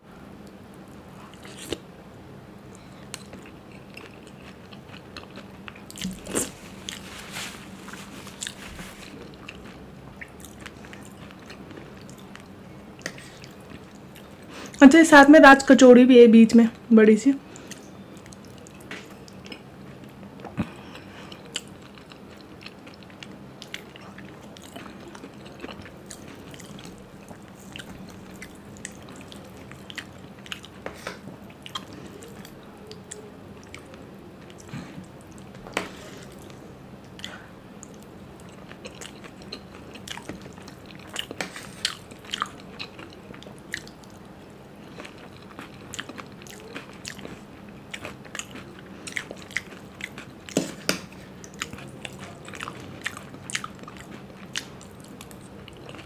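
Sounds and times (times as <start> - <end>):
food crunching: 2.8 - 14.8, 17.6 - 56.0.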